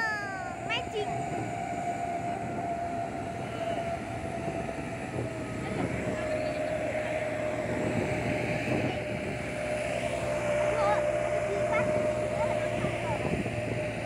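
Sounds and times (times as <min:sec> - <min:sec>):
steady whine: 0:00.0 - 0:14.0
truck engine and road noise: 0:00.0 - 0:14.0.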